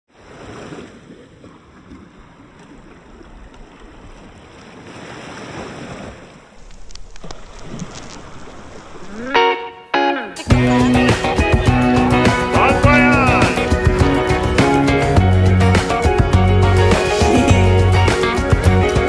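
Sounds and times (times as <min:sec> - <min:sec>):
waves washing: 0:00.1 - 0:19.0.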